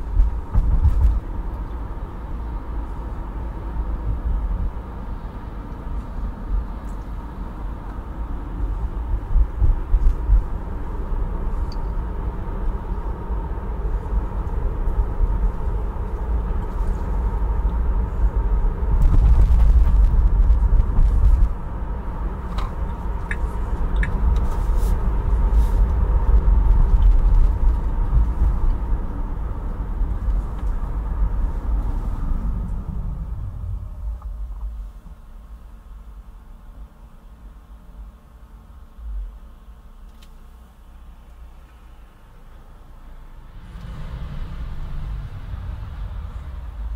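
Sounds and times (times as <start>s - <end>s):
car tyres and engine rumble: 0.0s - 46.9s.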